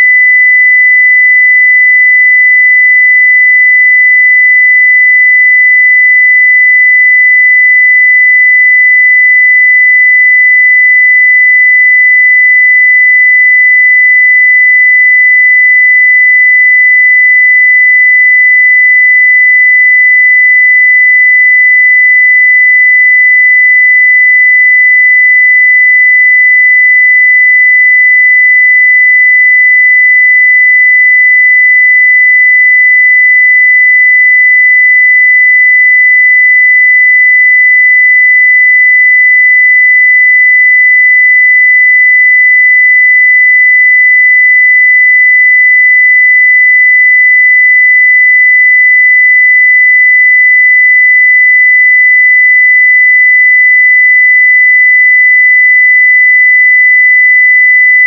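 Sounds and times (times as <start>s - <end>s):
sine-wave test tone: 0.0s - 58.0s.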